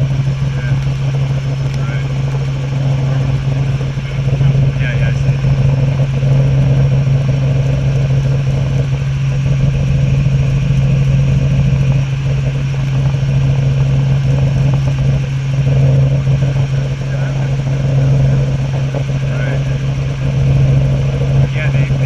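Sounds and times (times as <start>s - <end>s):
helicopter engine and rotors drone: 0.0s - 22.0s.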